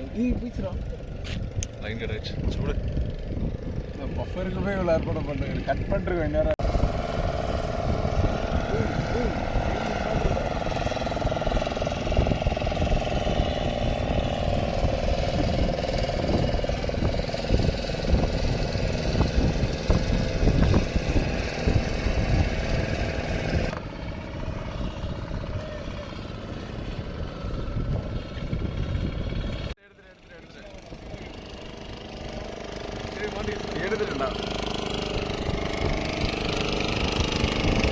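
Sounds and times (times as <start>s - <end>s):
motor engine rumbling: 0.0s - 37.9s.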